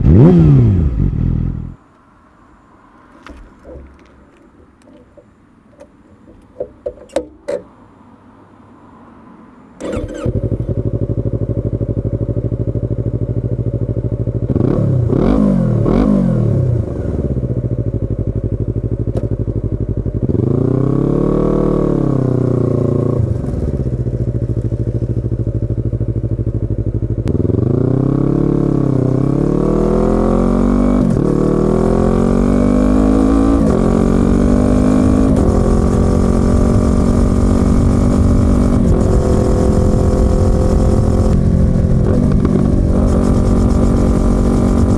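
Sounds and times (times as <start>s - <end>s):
motorcycle engine revving: 0.0s - 1.8s, 9.8s - 44.9s.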